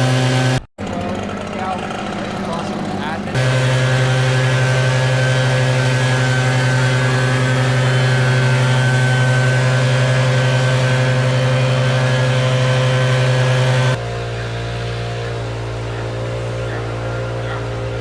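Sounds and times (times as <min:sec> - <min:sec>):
leaf blower running: 0:00.0 - 0:18.0.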